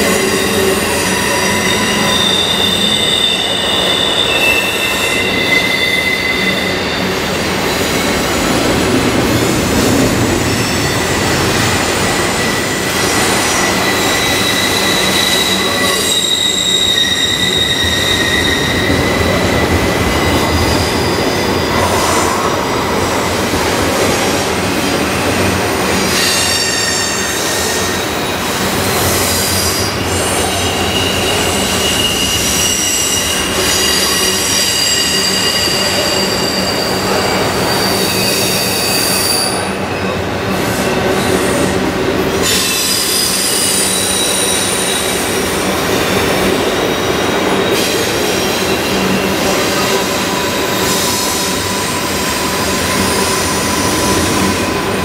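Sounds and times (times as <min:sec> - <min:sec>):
high steel-wheel squeals: 0:00.0 - 0:23.5, 0:24.1 - 0:55.0
train wheels rumbling on rail: 0:00.0 - 0:55.0.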